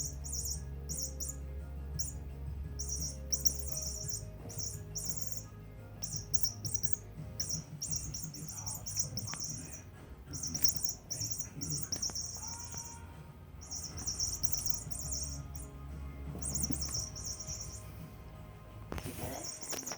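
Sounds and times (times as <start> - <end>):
squeaky toy squeaking: 0.0 - 2.2, 2.8 - 18.0, 19.1 - 19.9.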